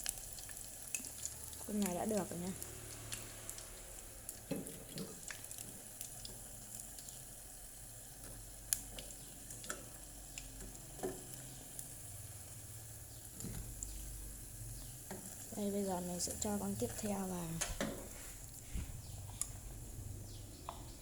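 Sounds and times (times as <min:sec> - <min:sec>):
shrimp deep-frying in oil: 0:00.0 - 0:21.0.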